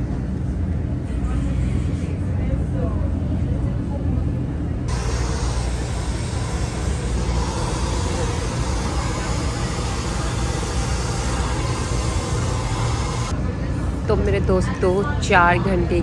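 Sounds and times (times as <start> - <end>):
background chatter: 0.1 - 16.0.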